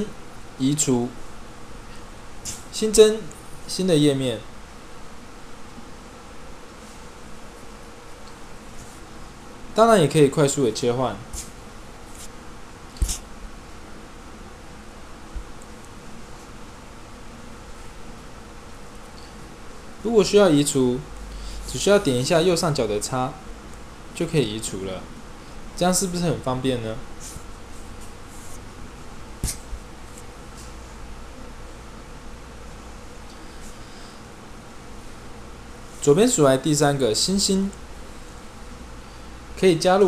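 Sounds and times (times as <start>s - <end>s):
background hiss: 0.0s - 40.0s
faint hum: 0.0s - 40.0s.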